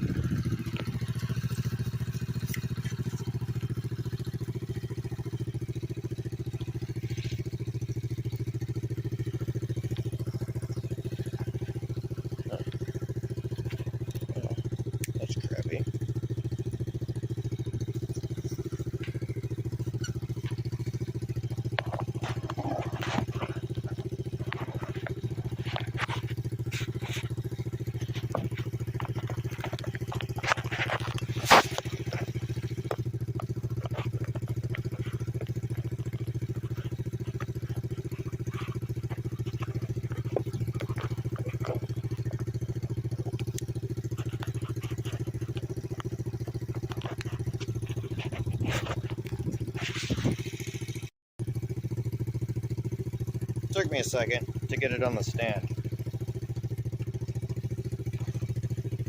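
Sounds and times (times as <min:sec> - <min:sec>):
pit bike engine idling: 0:00.0 - 0:59.0.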